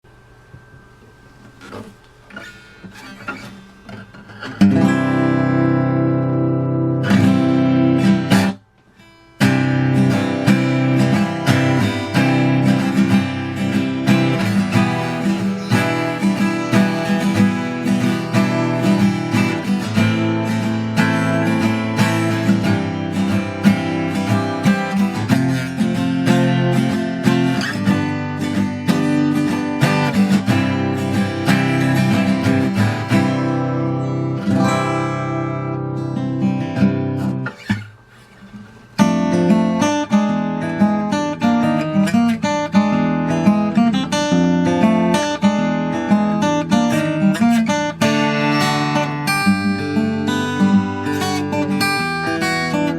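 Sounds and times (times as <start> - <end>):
acoustic guitar playing: 0.0 - 52.9.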